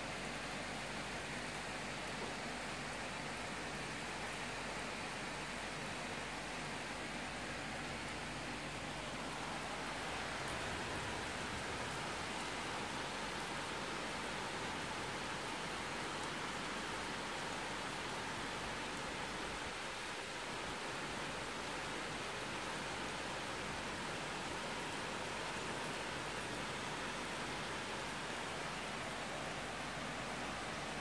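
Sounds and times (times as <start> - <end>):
heavy rain falling: 0.1 - 31.0.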